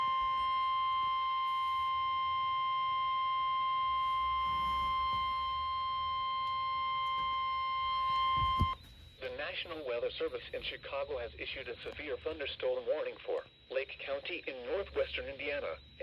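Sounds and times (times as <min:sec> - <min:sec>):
steady alarm tone: 0:00.0 - 0:16.0.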